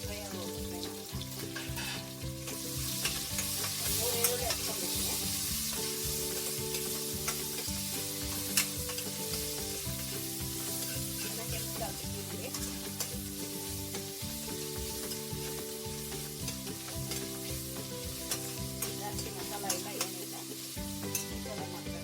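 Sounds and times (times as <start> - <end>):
food sizzling in hot oil: 0.0 - 22.0
spoon scraping a pan: 1.0 - 21.4.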